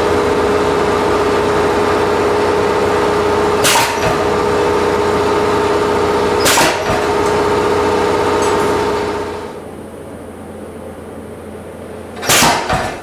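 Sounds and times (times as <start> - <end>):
air compressor humming: 0.0 - 13.0.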